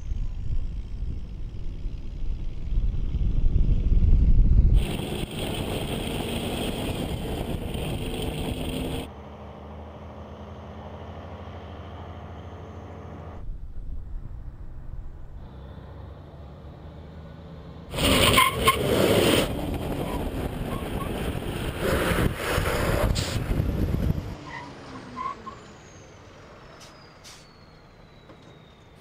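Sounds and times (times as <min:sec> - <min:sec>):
wind and tyre noise rushing: 0:00.0 - 0:09.2, 0:10.8 - 0:29.0
truck engine rumble: 0:00.0 - 0:29.0.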